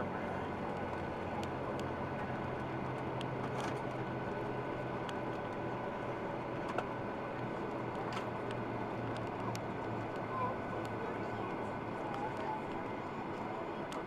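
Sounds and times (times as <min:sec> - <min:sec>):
aircraft cabin engine hum: 0:00.2 - 0:14.0.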